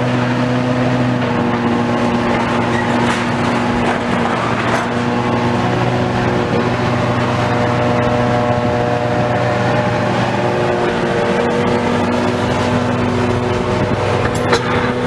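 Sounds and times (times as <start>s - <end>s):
diesel engine hum: 0.0s - 15.0s
machinery rattle: 0.0s - 15.0s.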